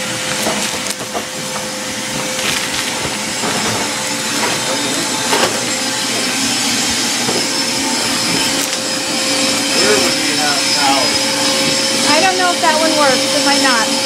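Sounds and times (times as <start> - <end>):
machine motor humming: 0.0 - 14.0.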